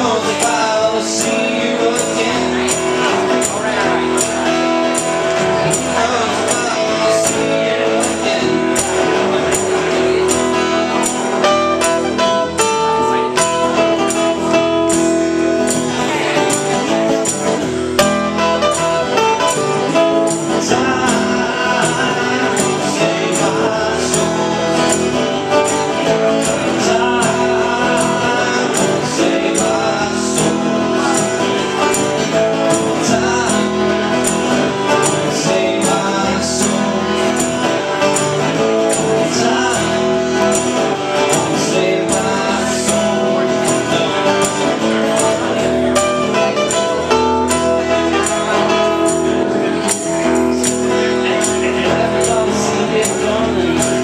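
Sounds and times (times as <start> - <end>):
acoustic guitars strumming: 0.0 - 54.0
man singing: 0.0 - 54.0.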